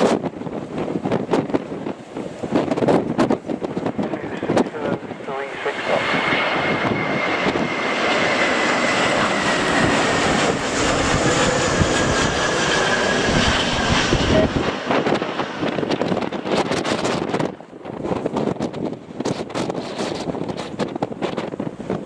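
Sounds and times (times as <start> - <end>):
jet airliner flying past: 0.0 - 22.0.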